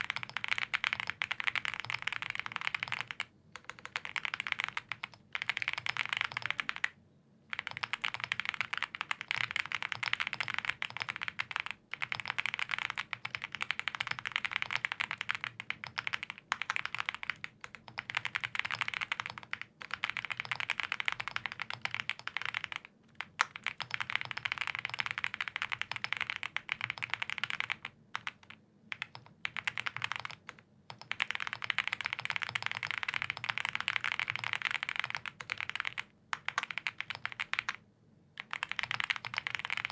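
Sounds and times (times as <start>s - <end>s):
mechanical keyboard typing: 0.0s - 37.8s, 38.4s - 39.9s.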